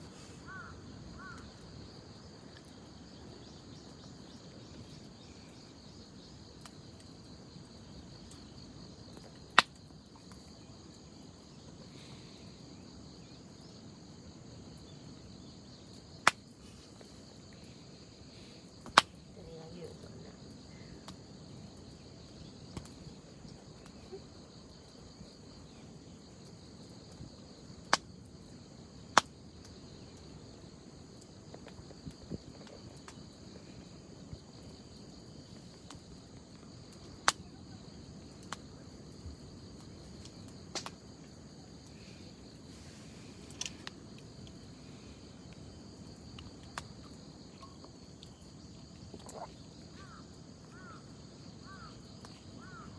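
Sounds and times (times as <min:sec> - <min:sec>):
fire popping: 0:00.0 - 0:12.4, 0:14.5 - 0:50.8
wood fire burning: 0:00.0 - 0:50.8
insects chirping: 0:00.0 - 0:52.9.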